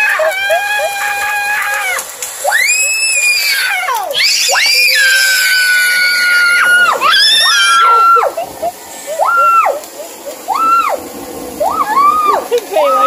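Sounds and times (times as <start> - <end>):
whistling fireworks: 0.0 - 13.0.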